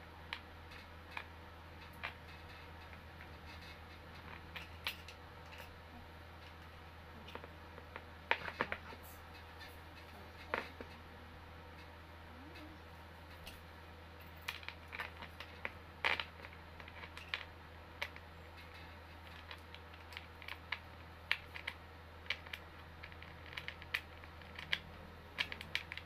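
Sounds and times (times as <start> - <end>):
chair parts clicking and tapping: 0.3 - 5.8, 6.4 - 11.1, 14.2 - 26.0.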